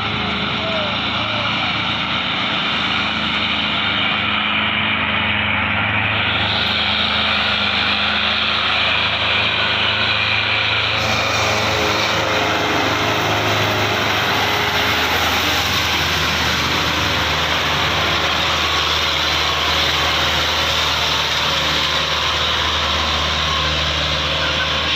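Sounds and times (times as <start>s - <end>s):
tractor diesel engine running: 0.0s - 24.9s.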